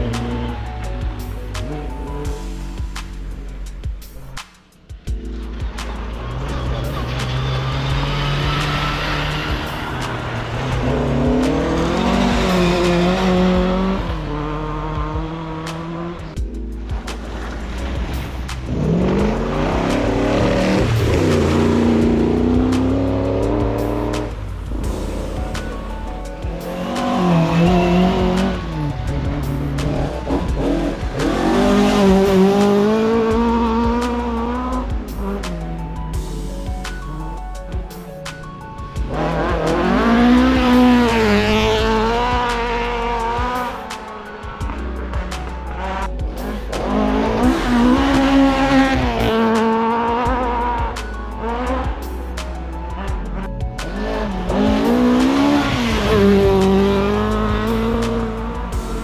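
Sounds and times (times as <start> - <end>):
rally car engine accelerating: 0.0 - 2.4, 5.4 - 36.3, 38.9 - 59.0.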